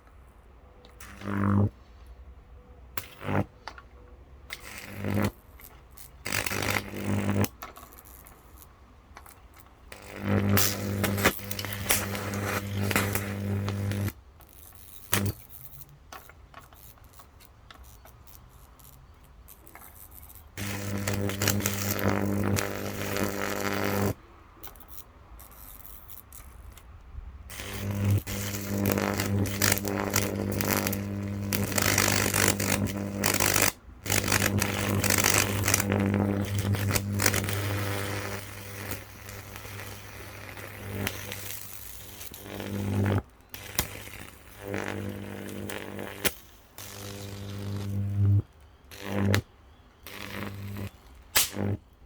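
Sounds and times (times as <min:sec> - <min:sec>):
electric arcs crackling: 0:00.9 - 0:02.0, 0:03.0 - 0:52.0.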